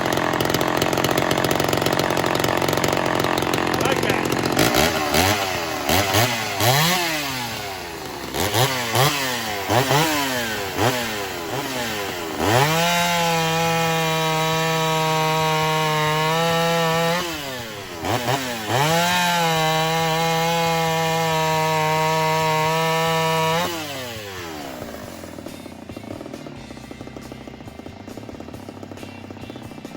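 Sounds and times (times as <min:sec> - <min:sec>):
chainsaw revving and cutting wood: 0:00.0 - 0:29.9.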